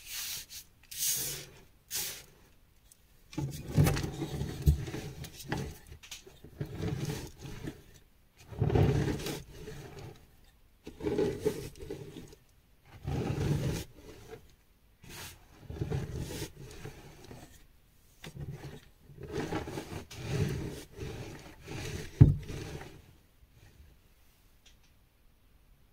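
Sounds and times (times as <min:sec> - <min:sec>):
rolling pin crunching chalk: 0:00.0 - 0:02.3, 0:03.4 - 0:10.3, 0:10.9 - 0:17.6, 0:18.2 - 0:23.1.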